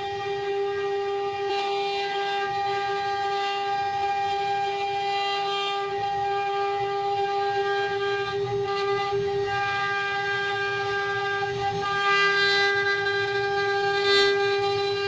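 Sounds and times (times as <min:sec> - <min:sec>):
spindle high whine: 0:00.0 - 0:15.0.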